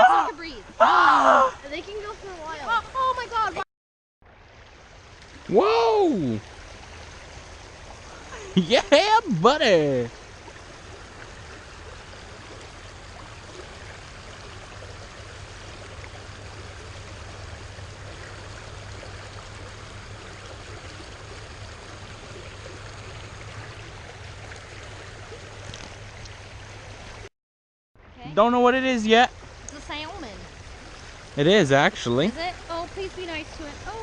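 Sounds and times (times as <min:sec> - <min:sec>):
creek water flowing over rocks: 0:00.0 - 0:03.6, 0:04.2 - 0:27.3, 0:28.3 - 0:34.0.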